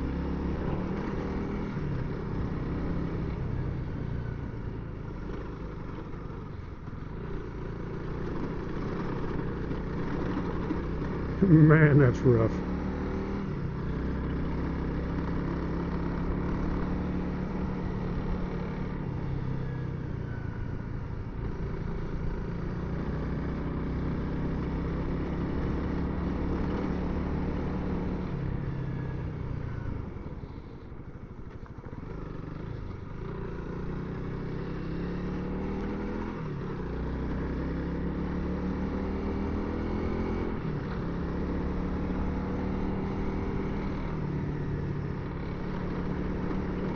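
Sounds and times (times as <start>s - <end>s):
motorcycle engine revving: 0.0s - 30.7s, 32.0s - 46.9s.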